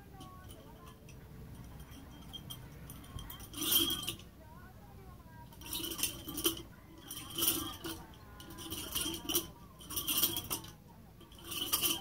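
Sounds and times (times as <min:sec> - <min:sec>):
metal chain links jingling: 0:00.0 - 0:04.4, 0:05.5 - 0:12.0.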